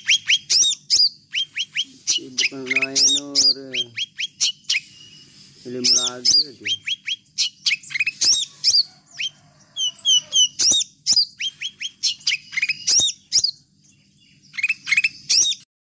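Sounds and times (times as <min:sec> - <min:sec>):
birds chirping: 0:00.0 - 0:15.7.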